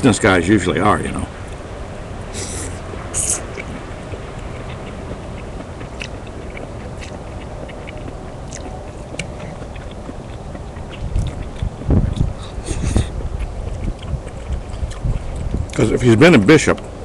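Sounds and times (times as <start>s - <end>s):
low rumbling background noise: 0.0s - 17.0s
man chewing noodles: 1.4s - 17.0s.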